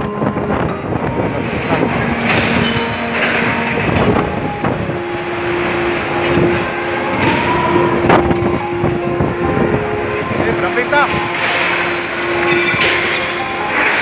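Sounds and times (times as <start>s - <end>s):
strong wind with whistling: 0.0s - 14.0s.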